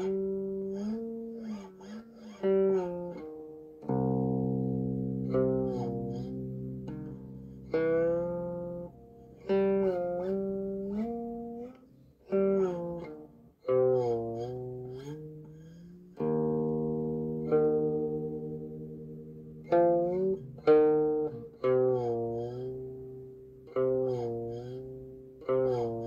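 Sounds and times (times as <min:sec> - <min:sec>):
plucked string melody: 0:00.0 - 0:26.0.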